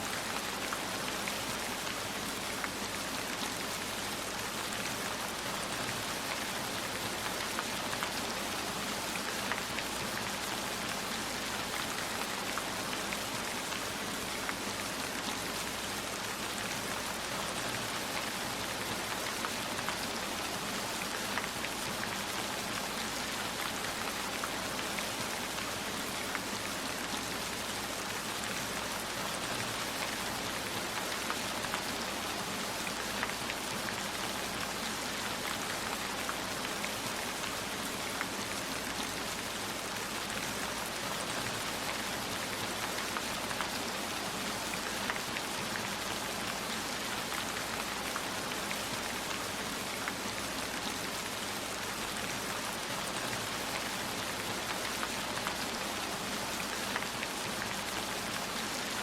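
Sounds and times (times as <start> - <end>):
raindrops ticking on a surface: 0.0 - 59.0
steady rainfall hiss: 0.0 - 59.0.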